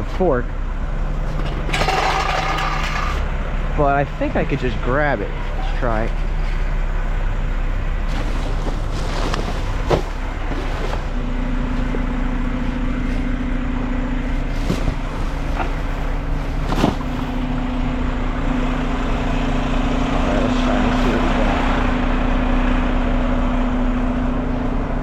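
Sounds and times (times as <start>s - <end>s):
garbage truck diesel engine running: 0.0s - 25.0s
steady hum: 0.0s - 25.0s.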